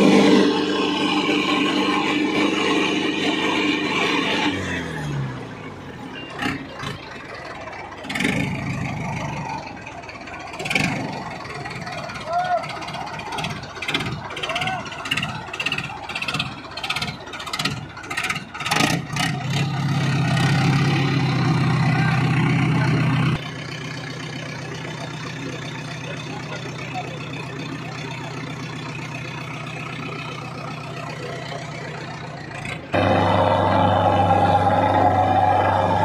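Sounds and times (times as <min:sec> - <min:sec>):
diesel tractor engines straining: 0:00.0 - 0:36.0.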